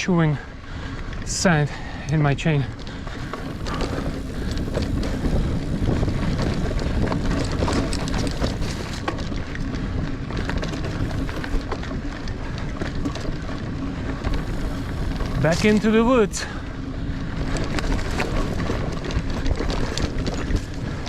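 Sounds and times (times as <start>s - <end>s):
bike tyre and wind noise: 0.0s - 21.0s
bike clicks and rattles: 0.6s - 21.0s.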